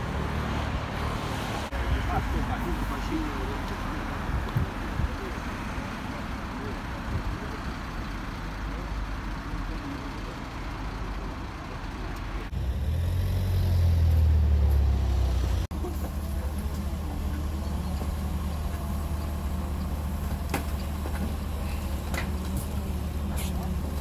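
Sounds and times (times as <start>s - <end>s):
road traffic: 0.0s - 24.0s
vehicle engine rumble: 0.0s - 24.0s.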